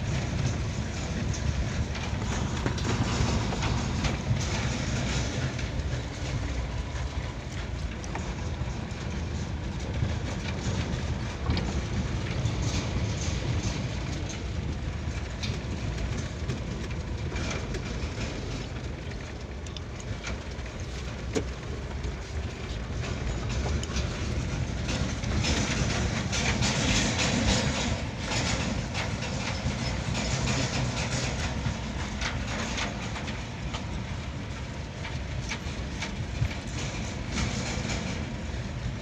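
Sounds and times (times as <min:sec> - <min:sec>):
engine and tyres rumbling: 0:00.0 - 0:39.0
vehicle knocks and rattles: 0:00.0 - 0:39.0.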